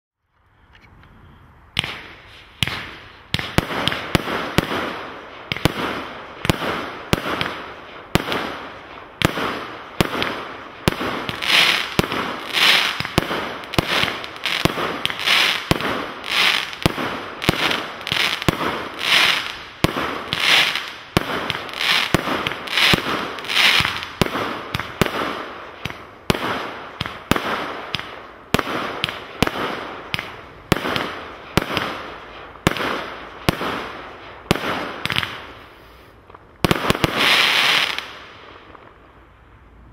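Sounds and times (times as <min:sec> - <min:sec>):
firework shots firing: 0:01.8 - 0:35.6, 0:36.6 - 0:38.8.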